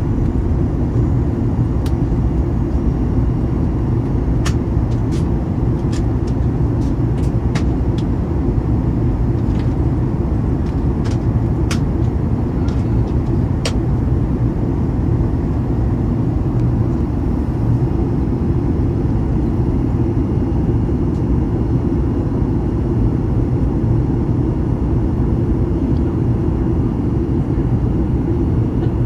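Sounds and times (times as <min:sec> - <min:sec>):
airflow over fuselage: 0:00.0 - 0:29.0
airplane cabin engine drone: 0:00.0 - 0:29.0.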